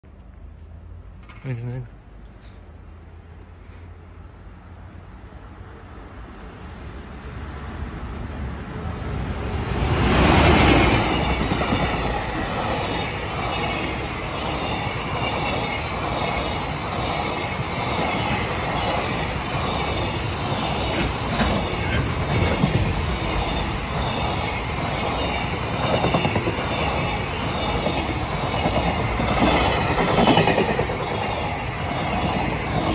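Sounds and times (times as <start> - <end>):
electric locomotive passing: 2.0 - 32.9.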